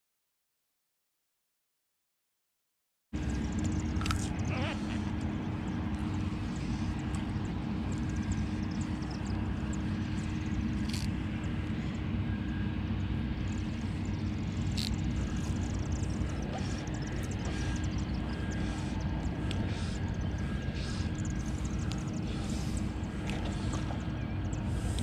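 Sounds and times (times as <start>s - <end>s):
low mechanical drone: 3.2s - 25.0s.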